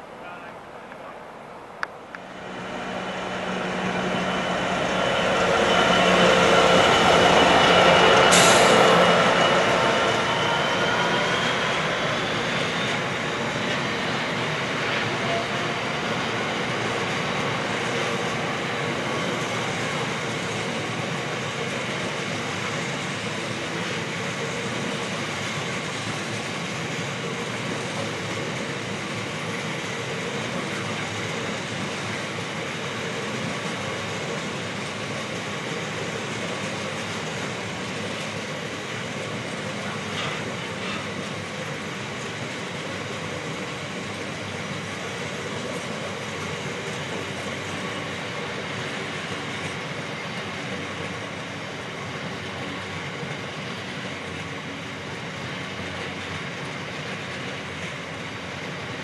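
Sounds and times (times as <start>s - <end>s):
train wheels on rails: 1.8s - 59.0s.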